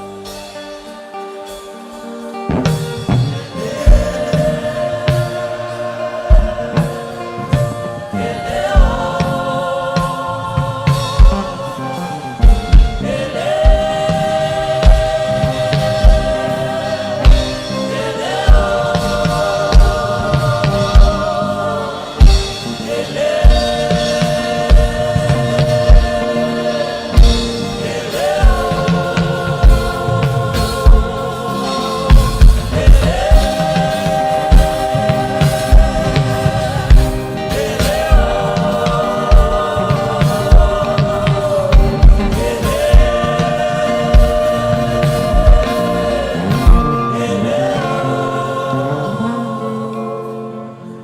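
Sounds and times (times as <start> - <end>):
group of voices singing: 0.0 - 51.0
steady drum beat: 2.5 - 48.5.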